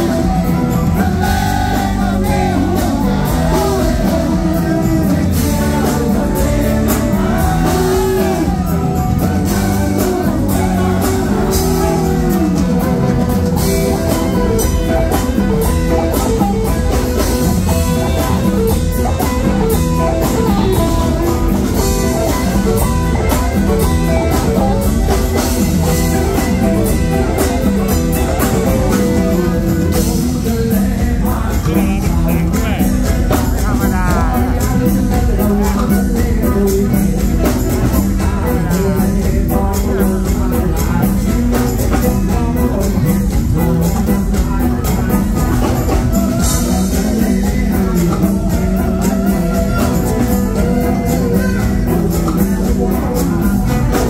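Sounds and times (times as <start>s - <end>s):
bass: 0.0s - 54.0s
electric guitars: 0.0s - 54.0s
person singing: 0.0s - 54.0s
steady drum beat: 0.0s - 54.0s.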